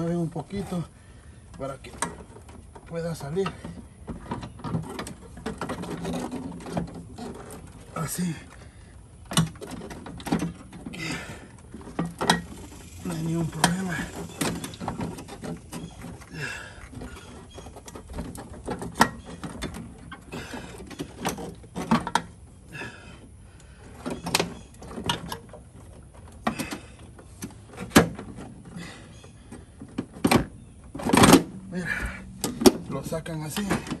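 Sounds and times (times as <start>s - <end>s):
clicks and knocks of car parts: 1.5s - 8.6s, 9.2s - 34.0s.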